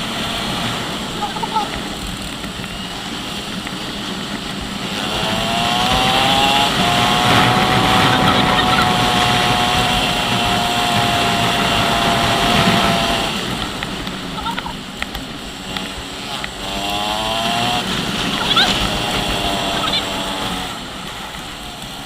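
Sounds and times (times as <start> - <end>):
motorcycle engine revving: 0.0 - 22.0
wind noise on microphone: 0.0 - 22.0.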